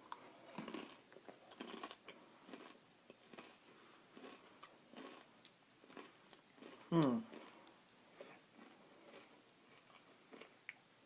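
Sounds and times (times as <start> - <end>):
corn chips crunching: 0.6 - 3.6, 4.2 - 10.6.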